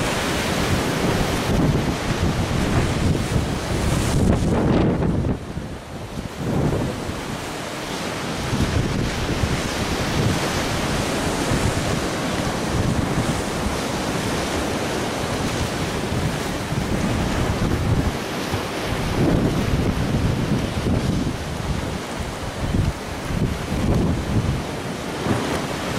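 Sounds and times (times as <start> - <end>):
wind buffeting microphone: 0.0 - 7.6, 8.3 - 25.9
waves breaking: 0.0 - 25.9.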